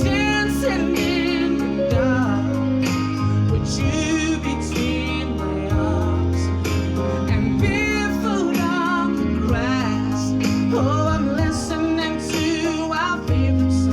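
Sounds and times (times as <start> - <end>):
person singing with vibrato: 0.0 - 13.9
sustained bass notes: 0.0 - 13.9.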